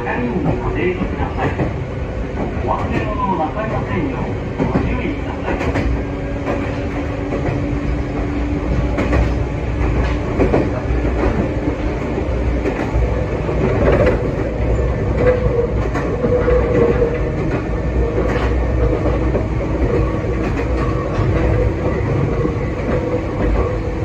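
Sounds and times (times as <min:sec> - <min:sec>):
train wheels rumbling on rails: 0:00.0 - 0:24.0
clacks over rail joints: 0:00.1 - 0:24.0.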